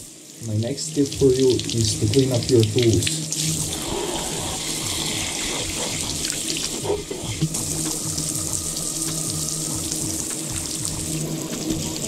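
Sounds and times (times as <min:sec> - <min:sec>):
tap water running and splashing: 0:00.0 - 0:12.0.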